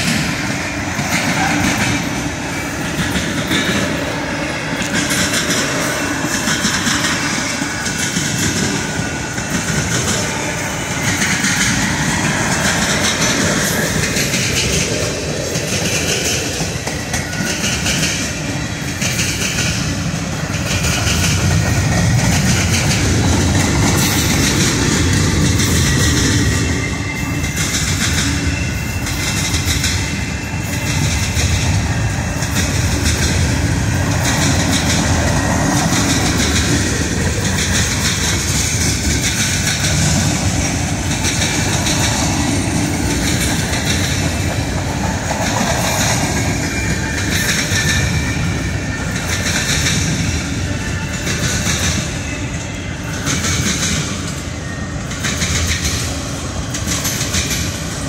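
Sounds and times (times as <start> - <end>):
steel wheels running over rails: 0.0 - 58.0.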